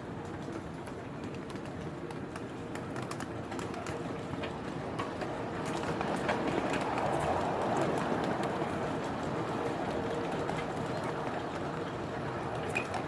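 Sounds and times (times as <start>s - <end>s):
miniature steam train running: 0.0s - 13.0s
train clicks on track: 0.0s - 13.0s.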